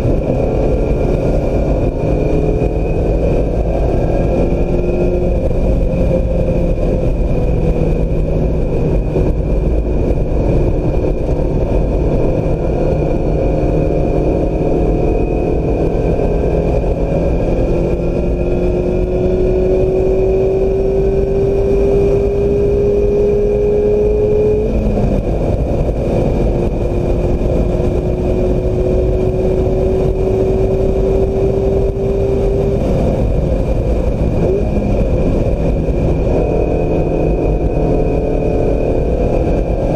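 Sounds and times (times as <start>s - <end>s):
car engine pulling hard: 0.0s - 39.9s
road noise: 0.0s - 39.9s
wind noise: 0.0s - 39.9s.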